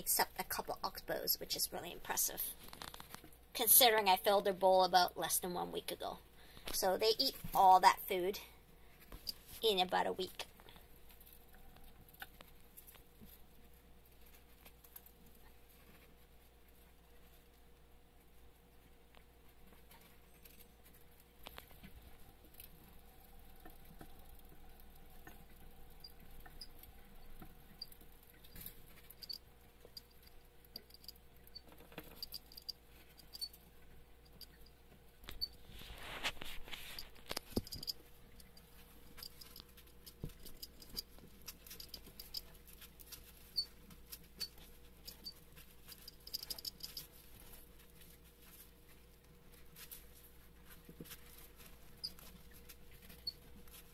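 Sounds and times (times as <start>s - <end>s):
hamsters nibbling seeds: 0.0s - 53.9s.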